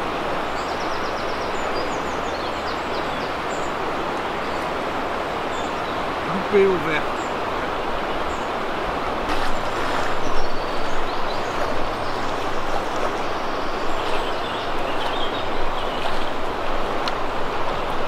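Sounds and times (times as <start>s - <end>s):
river rushing over riffles: 0.0s - 18.0s.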